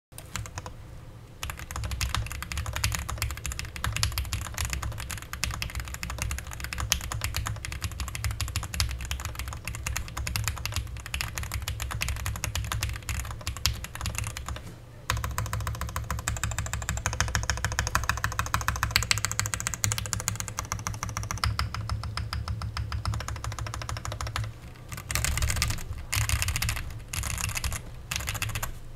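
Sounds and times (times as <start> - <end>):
mechanical keyboard key clacks: 1.4 - 28.7.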